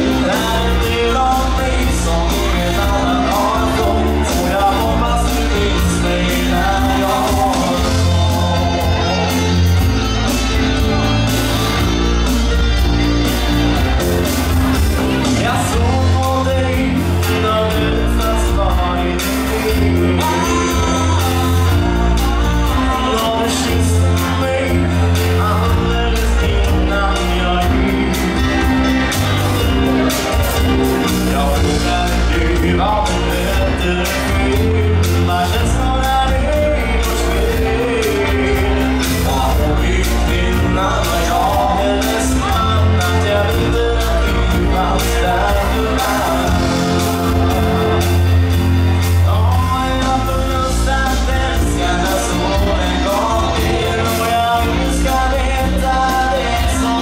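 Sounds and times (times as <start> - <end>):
bass guitar: 0.0 - 57.0
drums steady beat: 0.0 - 57.0
electric guitar: 0.0 - 57.0
keyboards: 0.0 - 57.0
man singing lead: 0.0 - 57.0.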